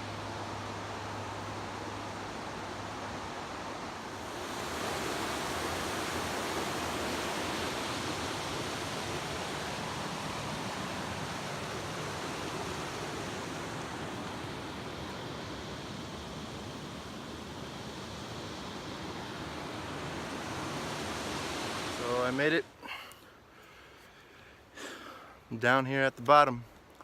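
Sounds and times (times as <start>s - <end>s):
river water flowing: 0.0s - 25.5s.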